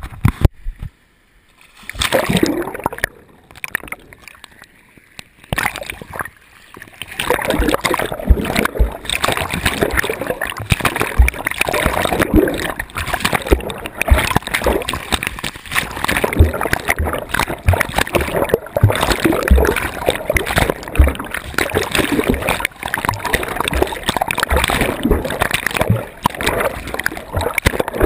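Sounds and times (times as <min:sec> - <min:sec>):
sea water churning and bubbling: 0:01.7 - 0:28.0.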